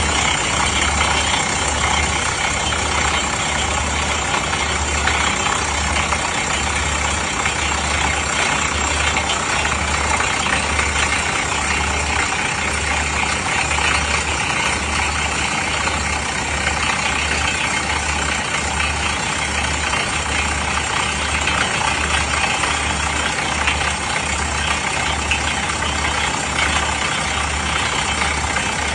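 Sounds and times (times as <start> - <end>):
deep engine throb: 0.0 - 28.9
rock drill rattling and hissing: 0.0 - 28.9.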